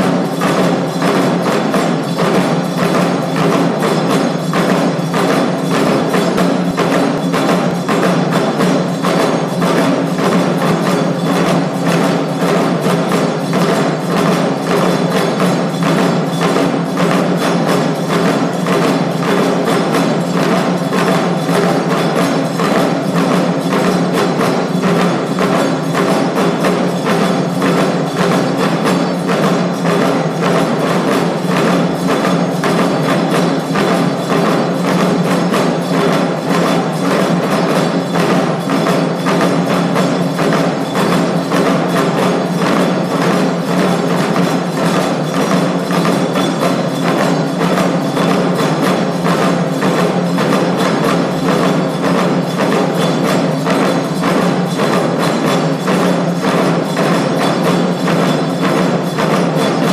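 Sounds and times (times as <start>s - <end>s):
taiko drum beating fast: 0.0s - 59.9s.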